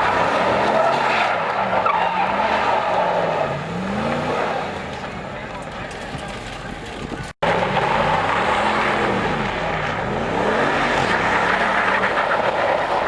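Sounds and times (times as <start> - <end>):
vehicle engine revving: 0.0 - 5.2, 6.4 - 13.0.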